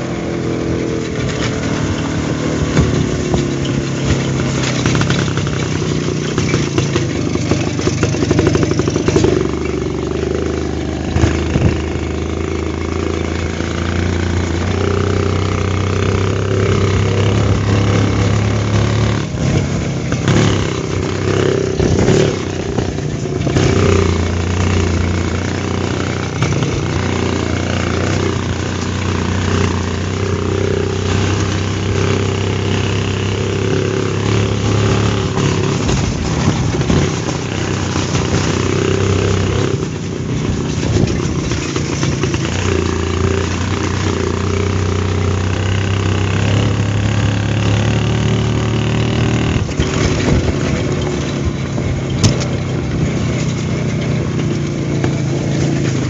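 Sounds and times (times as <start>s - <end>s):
two-stroke motorcycle engine: 0.0s - 56.0s.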